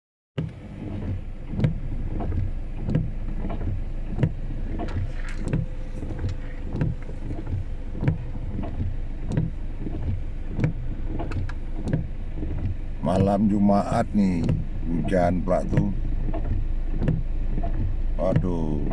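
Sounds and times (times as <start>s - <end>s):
engine and road rumble: 0.4s - 18.9s
rain noise: 0.4s - 18.9s
windshield wipers knocking: 0.4s - 18.9s.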